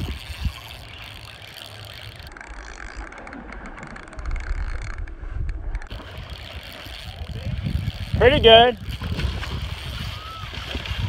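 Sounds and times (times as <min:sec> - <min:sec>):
wind rumbling on microphone: 0:00.0 - 0:01.3, 0:01.9 - 0:11.0
fishing reel ratcheting whir: 0:00.0 - 0:05.1, 0:05.8 - 0:11.0.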